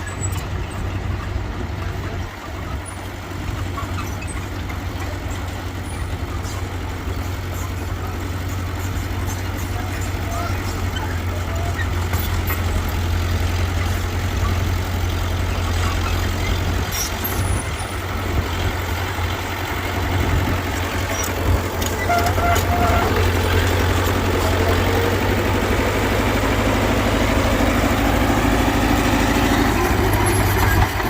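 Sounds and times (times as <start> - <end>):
heavy diesel engine rumbling: 0.0 - 31.0.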